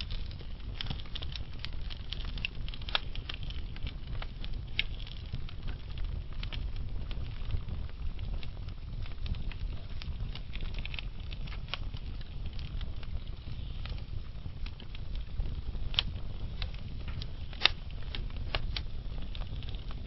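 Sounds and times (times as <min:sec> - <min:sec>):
steady low rumble: 0:00.0 - 0:20.0
wood fire crackling and popping: 0:00.0 - 0:20.0.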